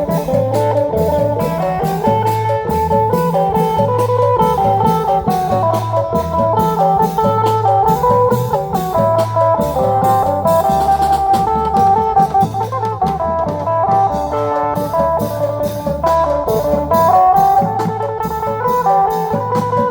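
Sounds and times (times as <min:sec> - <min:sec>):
driving drum beat: 0:00.0 - 0:19.9
plucked string melody: 0:00.0 - 0:19.9.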